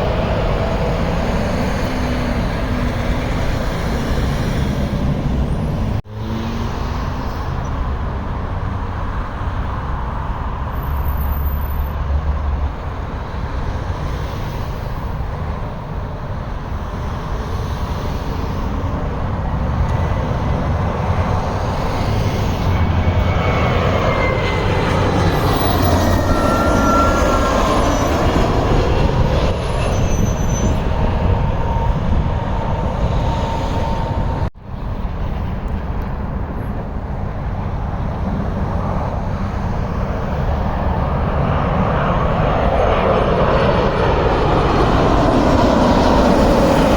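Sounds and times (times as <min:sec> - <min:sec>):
jet airliner rumble: 0:00.0 - 0:46.9
jet engine whine: 0:00.0 - 0:46.9.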